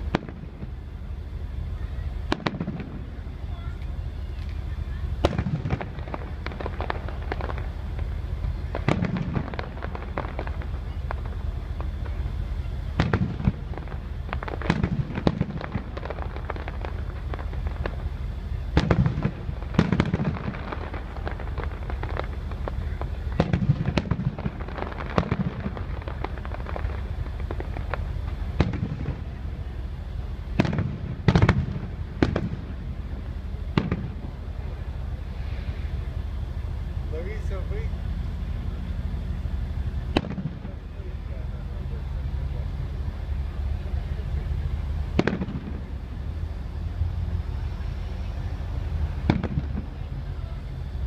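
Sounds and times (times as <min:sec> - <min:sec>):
fireworks bangs: 0:00.0 - 0:51.0
low rumble: 0:00.0 - 0:51.0.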